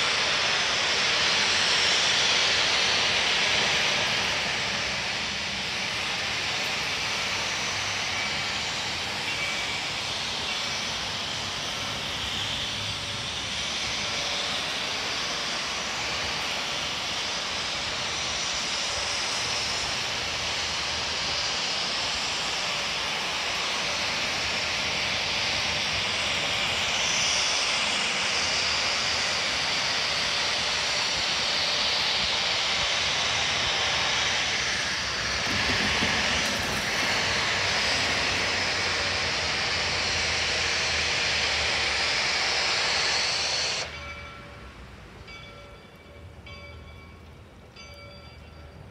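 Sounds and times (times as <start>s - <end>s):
steam locomotive exhaust roar: 0.0s - 48.9s.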